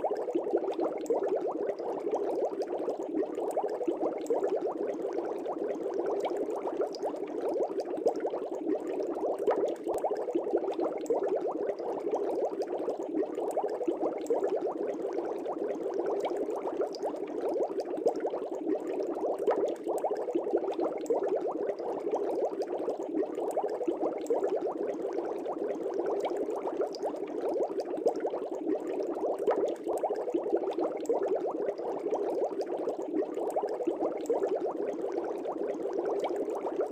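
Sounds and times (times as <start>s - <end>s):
aquarium air bubbling: 0.0s - 36.9s.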